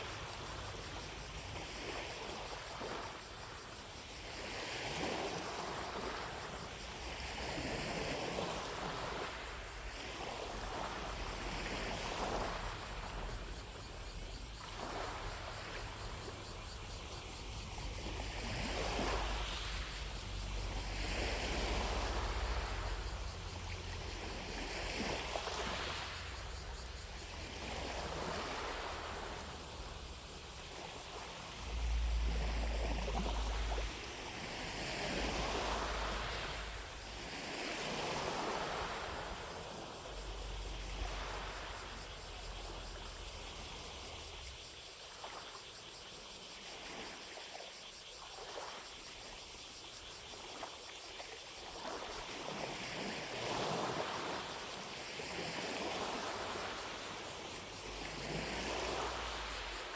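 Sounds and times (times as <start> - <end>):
lake waves lapping on shore: 0.0 - 49.4, 50.2 - 59.9
distant cicadas buzzing: 0.0 - 59.9.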